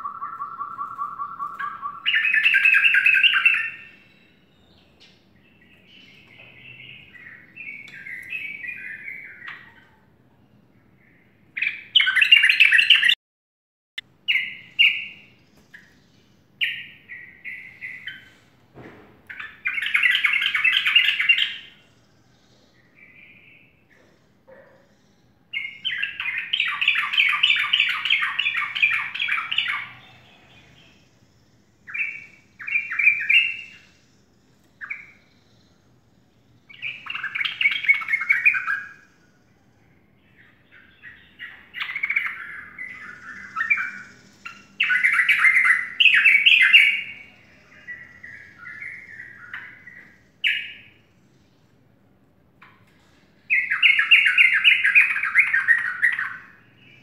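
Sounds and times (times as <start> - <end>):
bird singing chattering phrases: 0.0 - 13.2, 14.2 - 18.6, 19.3 - 57.0.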